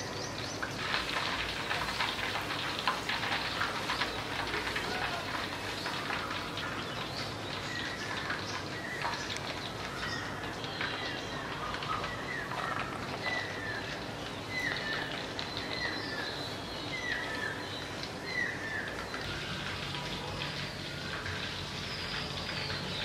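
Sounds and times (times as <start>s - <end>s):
oil sizzling and crackling: 0.0s - 23.0s.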